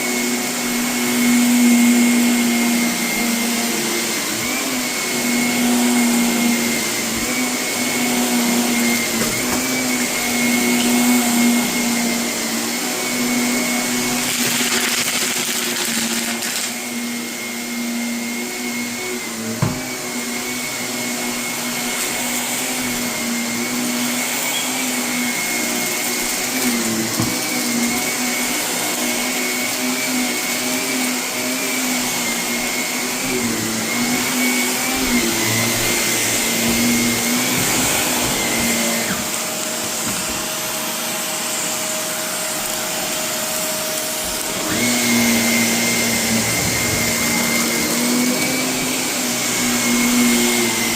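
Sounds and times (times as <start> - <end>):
vacuum cleaner on carpet: 0.0 - 50.9.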